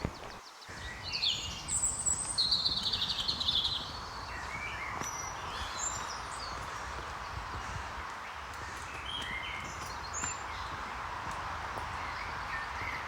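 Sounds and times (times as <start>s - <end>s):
outdoor background noise: 0.0s - 13.0s
songbirds chirping and trilling: 0.0s - 13.0s.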